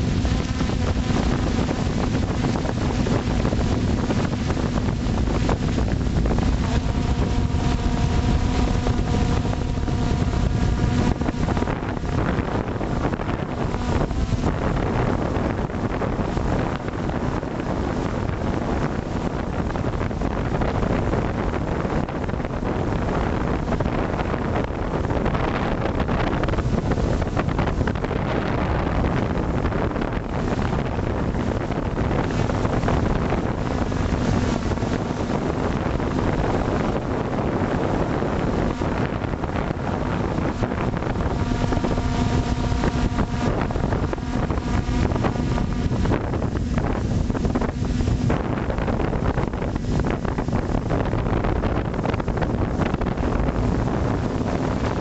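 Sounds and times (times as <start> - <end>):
drone motors and propellers: 0.0 - 55.0
wind buffeting microphone: 0.0 - 55.0.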